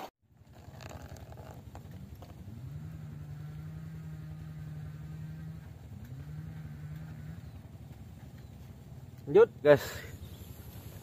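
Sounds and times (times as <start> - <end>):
engine humming: 0.3 - 11.0.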